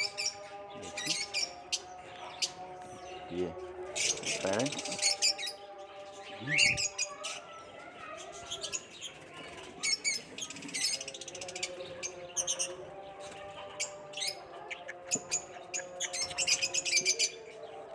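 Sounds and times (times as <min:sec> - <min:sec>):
birds chirping and squawking: 0:00.0 - 0:17.9.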